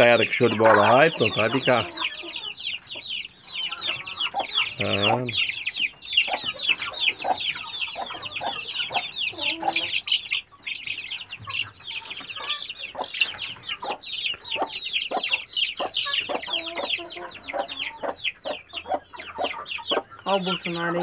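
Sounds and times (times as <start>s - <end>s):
chicks peeping: 0.0s - 21.0s
hen clucking: 0.0s - 21.0s.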